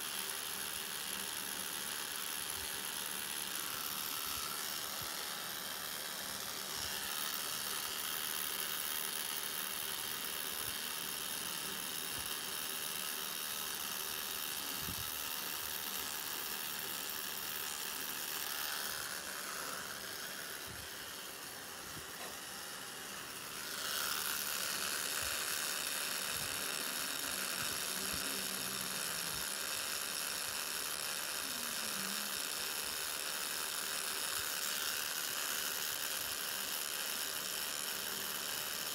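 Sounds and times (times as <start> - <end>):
tattoo machine whirring: 0.0 - 38.9.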